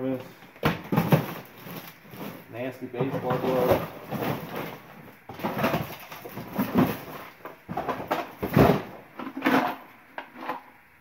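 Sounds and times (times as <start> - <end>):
rummaging through toys: 0.2 - 10.7.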